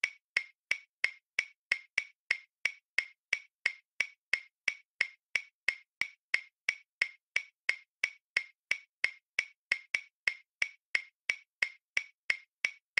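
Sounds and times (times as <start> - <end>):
clock ticking: 0.0 - 12.9.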